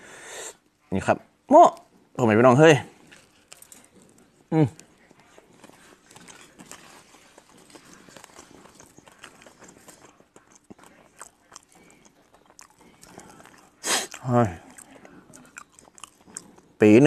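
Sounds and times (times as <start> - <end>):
faint chewing: 1.7 - 17.0.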